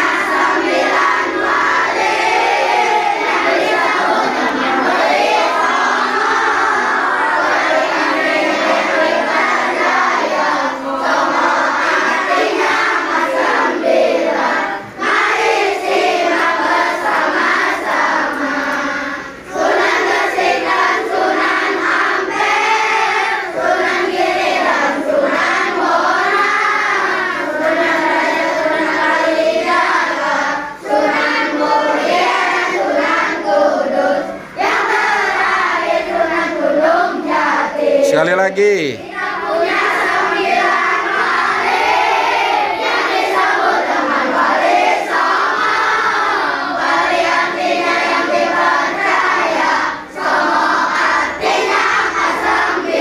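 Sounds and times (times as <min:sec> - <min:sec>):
children singing in unison: 0:00.0 - 0:53.0.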